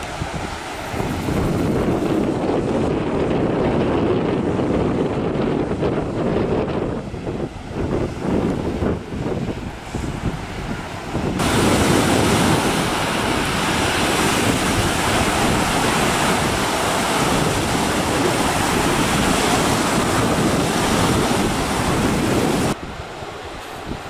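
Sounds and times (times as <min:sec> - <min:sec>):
waves washing onto shore: 0:00.0 - 0:24.0
wind buffeting microphone: 0:00.0 - 0:24.0.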